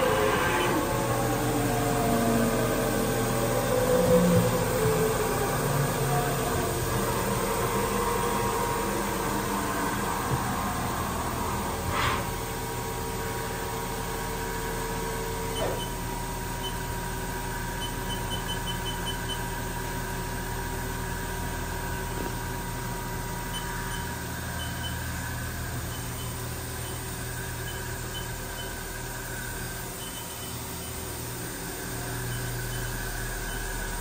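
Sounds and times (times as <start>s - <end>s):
low machine tone: 0.0s - 34.0s
machining center humming and whining: 0.0s - 34.0s.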